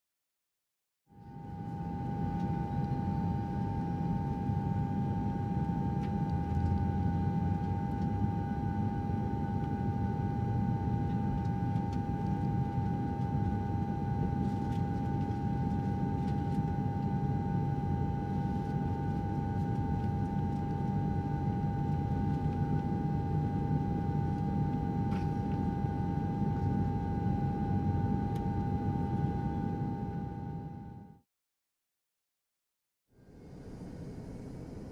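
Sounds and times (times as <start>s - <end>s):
airliner cabin rumble: 1.3s - 30.9s.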